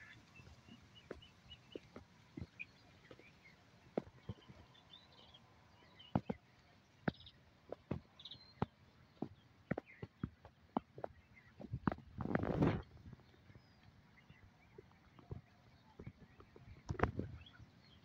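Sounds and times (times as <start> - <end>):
birds chirping and trilling: 0.0 - 18.0.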